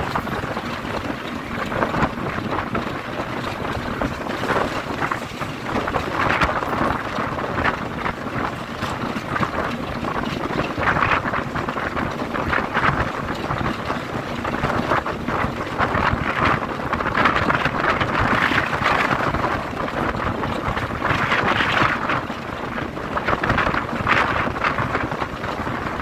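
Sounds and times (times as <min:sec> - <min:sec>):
diesel locomotive engine: 0:00.0 - 0:26.0
wind buffeting microphone: 0:00.0 - 0:26.0.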